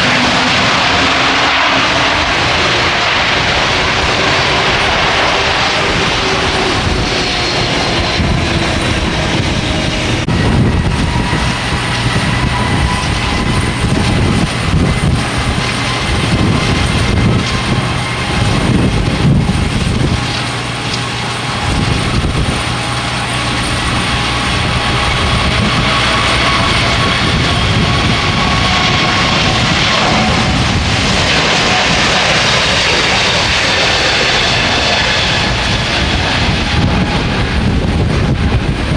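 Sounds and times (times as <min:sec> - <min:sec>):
fan whine: 0:00.0 - 0:38.9
jet engines running: 0:00.0 - 0:38.9
wind rumbling on microphone: 0:00.0 - 0:38.9.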